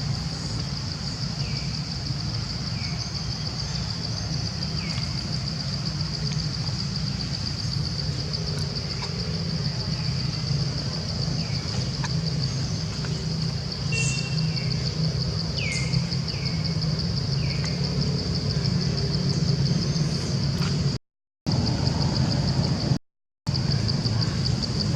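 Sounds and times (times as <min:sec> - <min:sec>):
low steady rumble: 0:00.0 - 0:24.9
pulsing insect chorus: 0:00.0 - 0:24.9.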